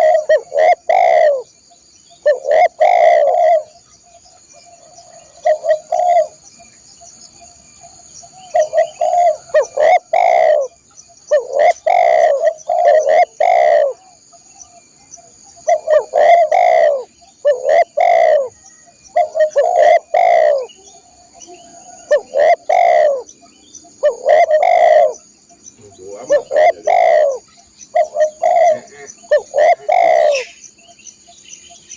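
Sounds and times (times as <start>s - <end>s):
dove cooing: 0.0s - 1.5s, 2.2s - 6.4s, 8.3s - 30.6s.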